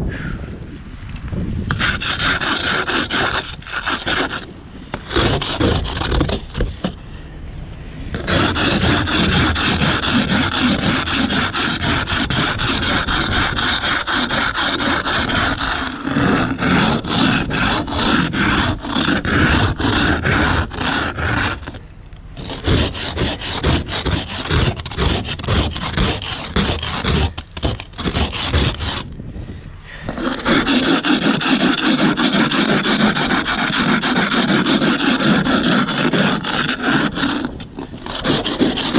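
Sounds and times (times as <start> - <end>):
ice scraper scraping ice: 1.7 - 7.0, 8.1 - 21.8, 22.4 - 29.1, 30.0 - 38.9.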